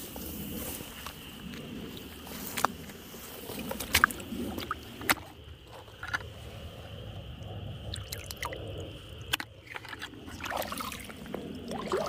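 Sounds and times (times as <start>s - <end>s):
water sloshing and splashing: 0.6s - 12.0s.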